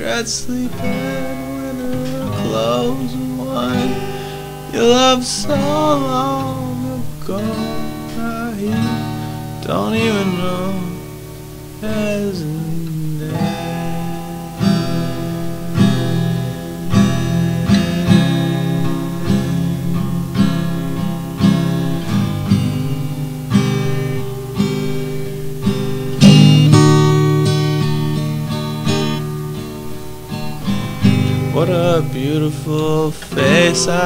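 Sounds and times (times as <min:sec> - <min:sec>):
person singing folk song: 0:00.0 - 0:29.2, 0:30.6 - 0:34.0
acoustic guitar strumming: 0:00.0 - 0:34.0.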